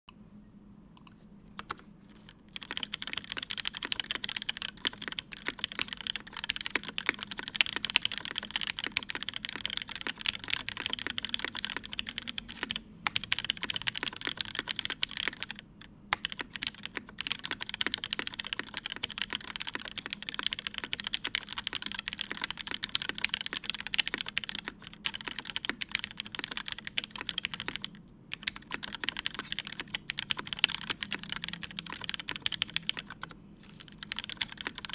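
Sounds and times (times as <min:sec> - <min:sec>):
mechanical keyboard typing: 0:01.0 - 0:34.9.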